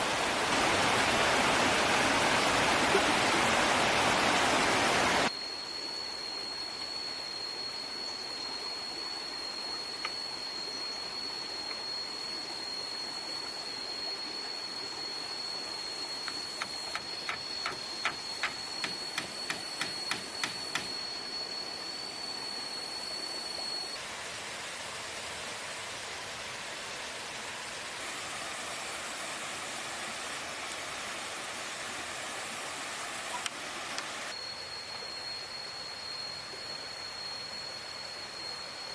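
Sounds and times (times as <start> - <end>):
stream water flowing: 0.0 - 5.3, 6.5 - 38.9
thin high steady tone: 0.0 - 38.9.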